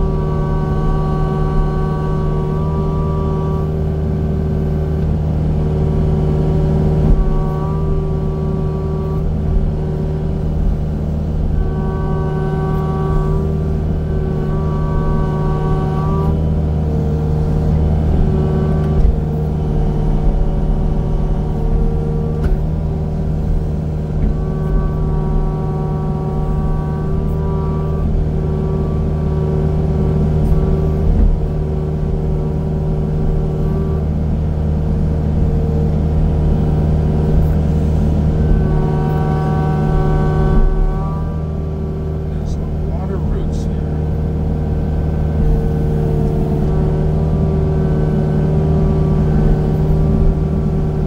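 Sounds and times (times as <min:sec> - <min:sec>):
high machine whine: 0:00.0 - 0:51.0
land-clearing machine engine: 0:00.0 - 0:51.0.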